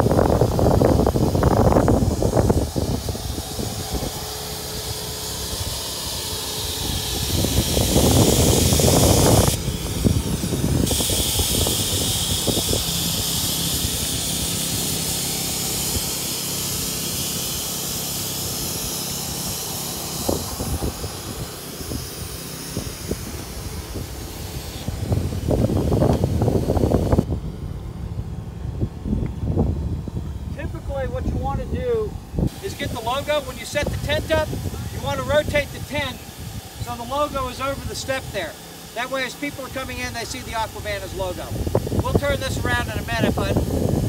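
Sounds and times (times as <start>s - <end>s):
wind buffeting microphone: 0.0s - 16.2s, 18.7s - 38.4s, 40.2s - 44.0s
air pump hissing: 0.0s - 27.3s, 29.2s - 44.0s.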